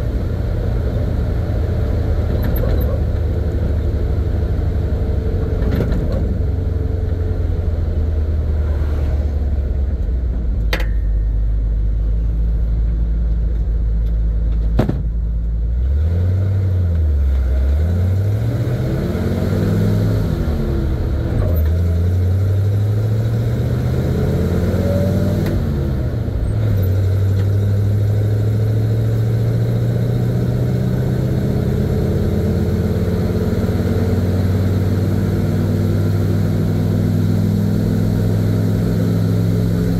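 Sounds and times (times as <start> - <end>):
truck engine running and shifting: 0.0 - 39.9.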